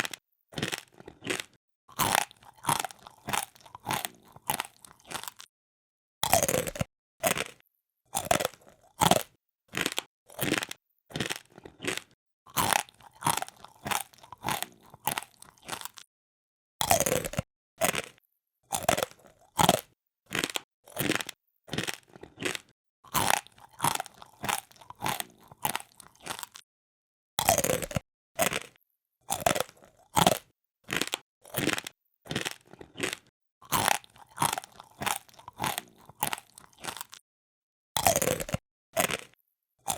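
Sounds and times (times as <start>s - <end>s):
crunchy food chewing: 0.0s - 5.5s, 6.2s - 16.1s, 16.8s - 26.7s, 27.4s - 37.2s, 38.0s - 39.9s.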